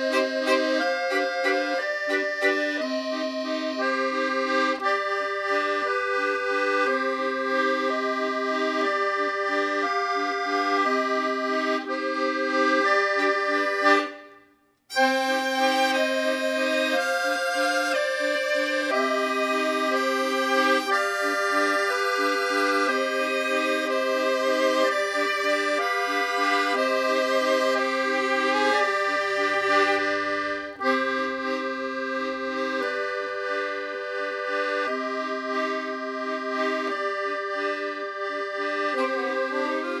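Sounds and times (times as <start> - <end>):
accordion musette tune: 0.0 - 40.0.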